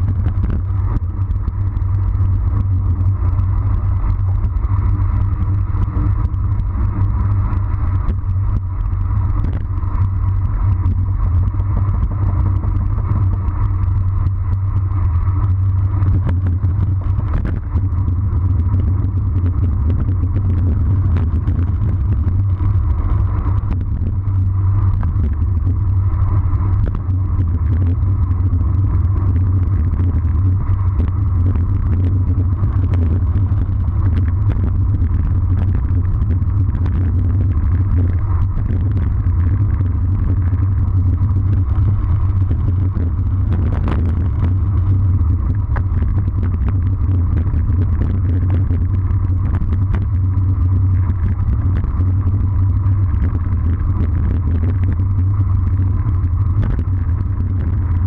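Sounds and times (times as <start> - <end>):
tyre noise on asphalt: 0.0 - 58.0
wind rumble over camera: 0.0 - 58.0.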